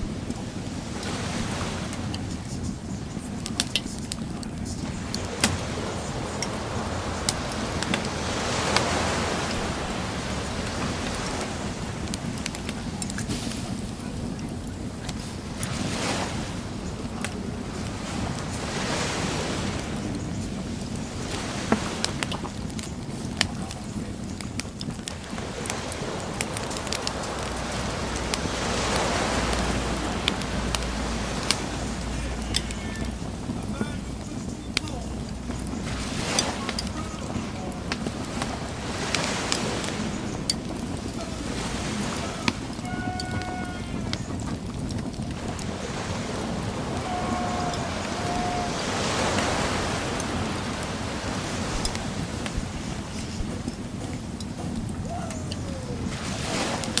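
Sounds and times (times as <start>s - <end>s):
bonfire crackling and popping: 0.0s - 57.0s
sea wave washing in: 3.5s - 14.3s, 15.1s - 22.6s, 25.1s - 34.2s, 35.1s - 54.1s, 55.0s - 57.0s.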